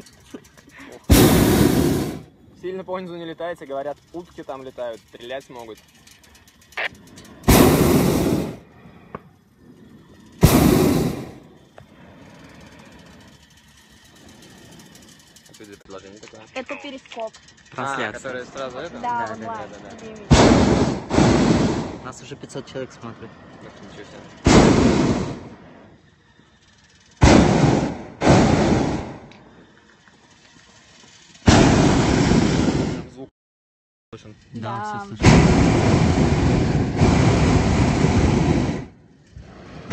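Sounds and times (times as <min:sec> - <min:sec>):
propane burner blasts: 0:00.0 - 0:16.4, 0:17.6 - 0:33.3, 0:34.5 - 0:39.9.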